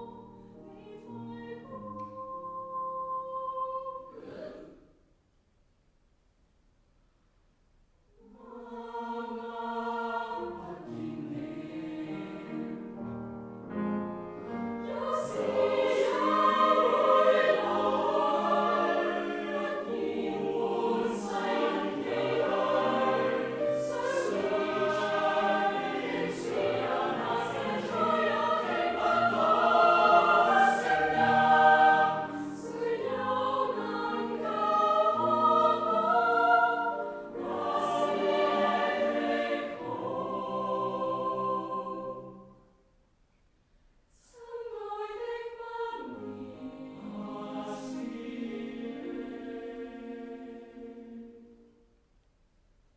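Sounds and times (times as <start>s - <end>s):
choir singing in harmony: 0.0s - 4.9s, 8.2s - 42.8s, 44.2s - 51.8s.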